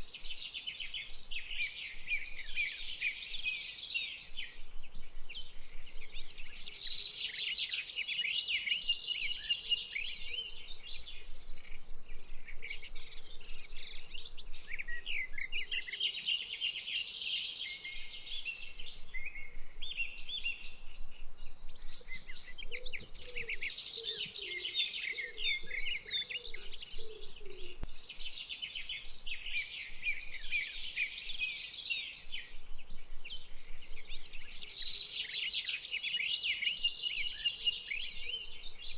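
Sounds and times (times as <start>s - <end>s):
small birds chirping and trilling: 0.0s - 38.9s.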